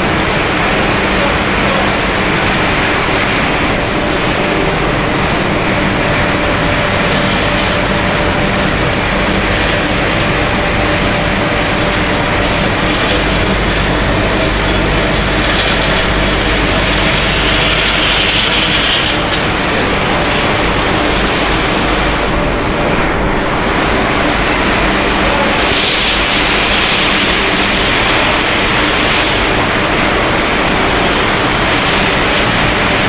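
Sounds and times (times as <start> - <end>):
production line machinery din: 0.0 - 33.0.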